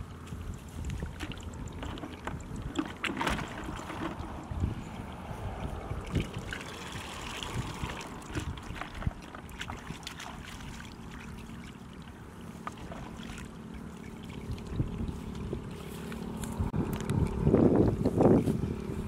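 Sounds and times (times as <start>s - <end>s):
shallow water splashing and trickling: 0.0s - 16.4s.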